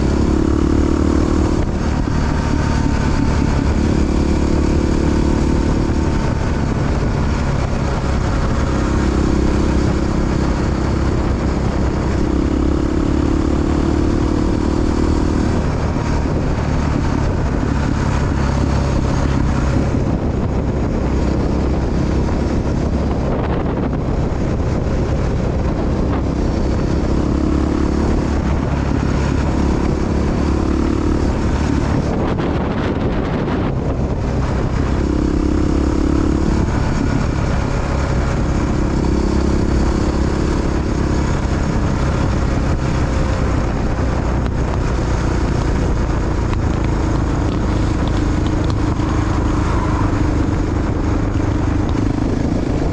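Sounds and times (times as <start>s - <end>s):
motorcycle engine running: 0.0s - 52.9s
wind noise: 0.0s - 52.9s.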